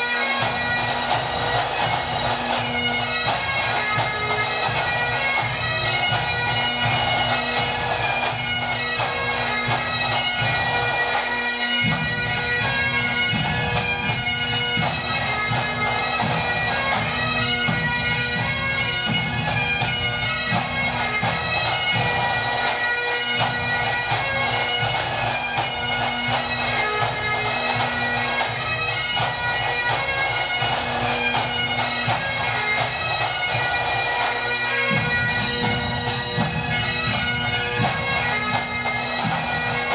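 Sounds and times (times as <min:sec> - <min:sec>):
bagpipes playing a march: 0:00.0 - 0:39.9
drums beating: 0:00.0 - 0:39.9.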